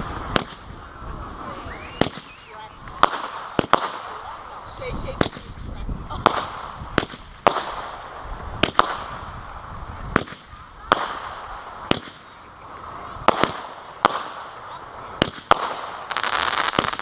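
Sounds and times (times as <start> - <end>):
fireworks bangs: 0.0 - 17.0
fireworks crackling and hiss: 0.0 - 17.0.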